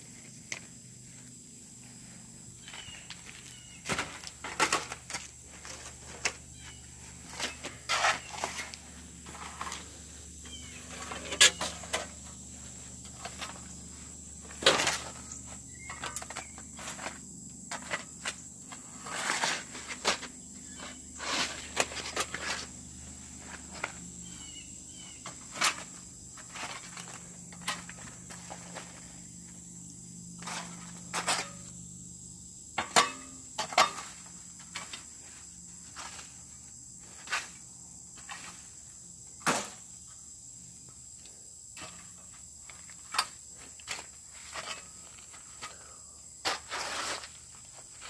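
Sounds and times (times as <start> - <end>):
rake scraping through shingles: 2.6 - 29.1, 30.4 - 31.8, 32.9 - 39.8, 41.8 - 48.0.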